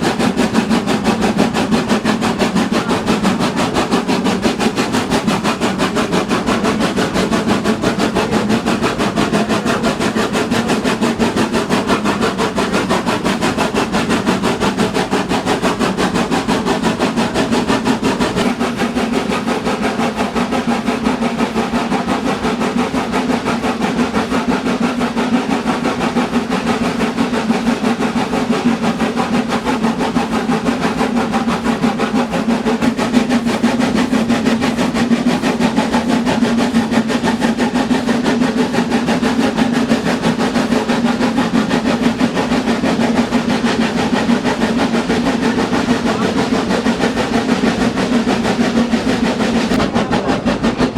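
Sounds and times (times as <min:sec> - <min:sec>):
train running: 0:00.0 - 0:50.9.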